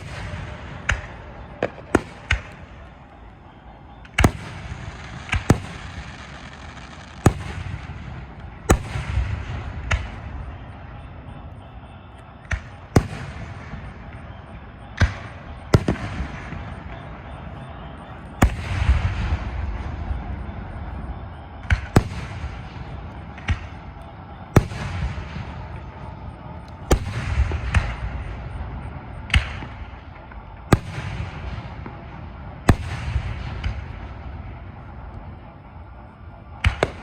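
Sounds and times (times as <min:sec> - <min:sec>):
fireworks bangs: 0:00.0 - 0:37.0
rumbling echo: 0:00.0 - 0:37.0.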